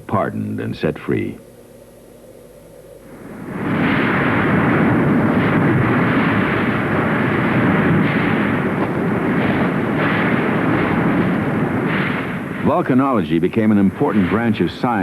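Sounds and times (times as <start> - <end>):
volcanic eruption rumbling: 1.8 - 15.0.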